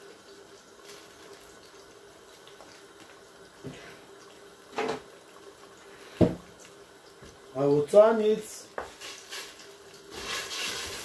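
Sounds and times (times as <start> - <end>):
sauce bubbling in a pot: 0.0 - 11.0.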